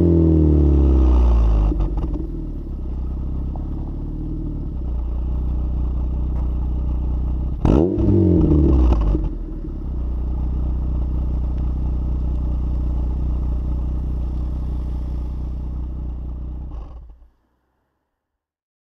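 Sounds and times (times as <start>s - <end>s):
car engine idling: 1.4s - 17.9s.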